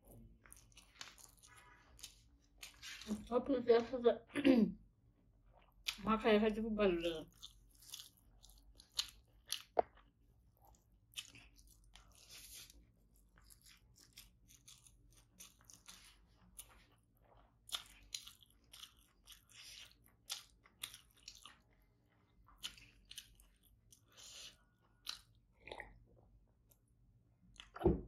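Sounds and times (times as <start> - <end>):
squish of food mixed by hand: 0.0 - 4.0, 5.3 - 27.8
chewing rice: 0.1 - 3.3, 5.4 - 6.0, 7.1 - 26.0.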